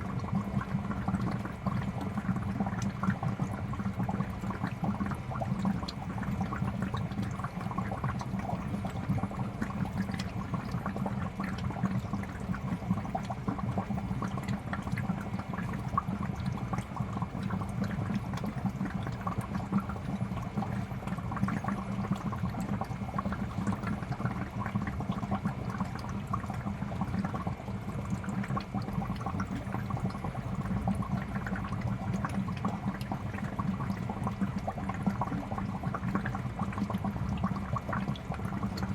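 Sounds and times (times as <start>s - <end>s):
aquarium bubbles popping: 0.0s - 38.9s.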